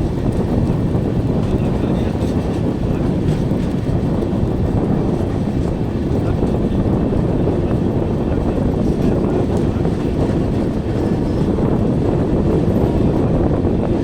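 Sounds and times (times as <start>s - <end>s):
train rumbling on rails: 0.0s - 14.0s
wind noise: 0.0s - 14.0s.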